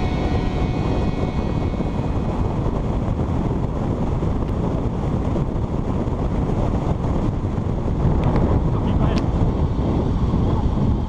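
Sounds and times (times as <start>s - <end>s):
motorcycle engine and road noise: 0.0s - 11.0s
wind buffeting microphone: 0.0s - 11.0s.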